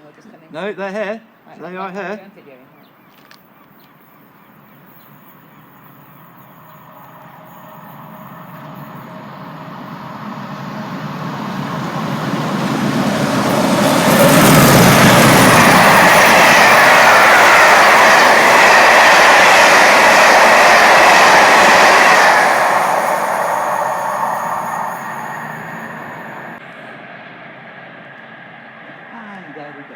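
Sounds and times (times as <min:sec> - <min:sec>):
diesel locomotives passing: 0:04.0 - 0:29.9.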